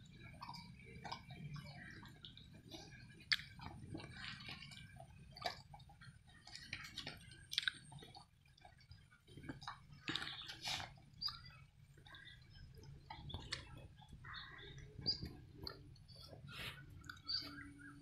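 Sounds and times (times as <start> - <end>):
dog chewing wetly: 0.0 - 17.9.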